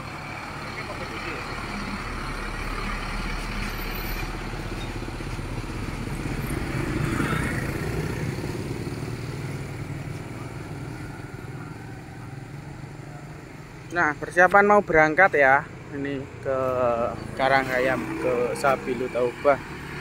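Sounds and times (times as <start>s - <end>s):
motorcycles riding: 0.0s - 20.0s
truck engine running: 0.0s - 20.0s.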